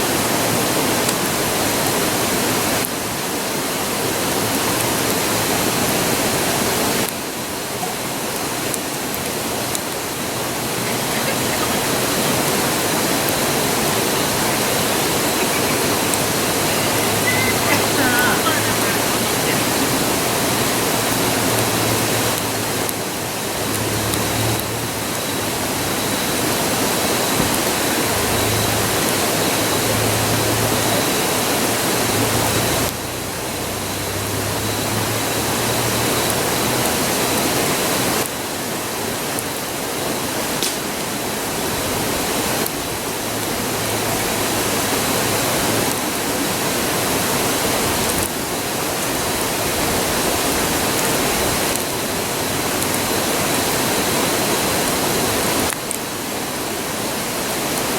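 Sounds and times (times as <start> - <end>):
river rushing: 0.0 - 57.9.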